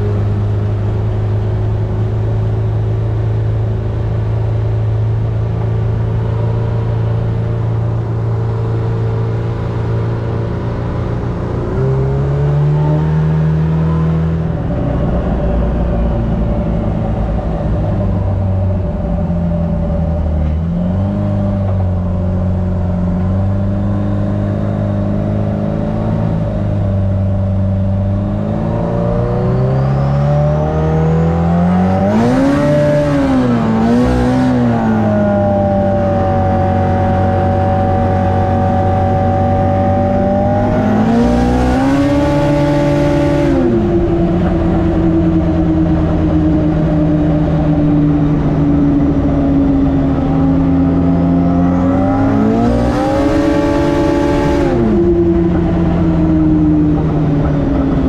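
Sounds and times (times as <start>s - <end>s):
engine revving: 0.0s - 58.0s.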